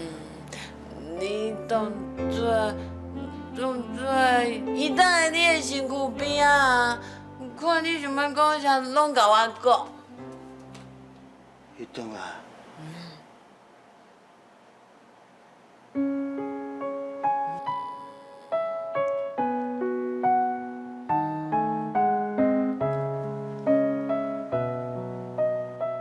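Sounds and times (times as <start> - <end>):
slow gentle piano melody: 0.0 - 13.0, 15.8 - 26.0.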